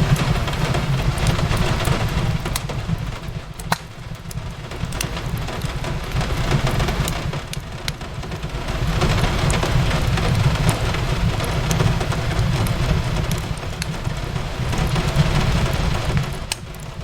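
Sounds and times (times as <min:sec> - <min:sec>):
fireplace crackling: 0:00.0 - 0:17.0
steady rain hiss: 0:00.0 - 0:17.0.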